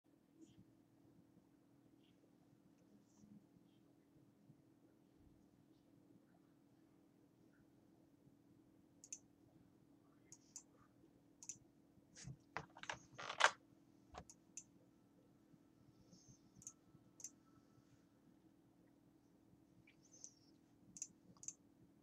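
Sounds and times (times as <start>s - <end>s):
faint steady hum: 0.1s - 22.0s.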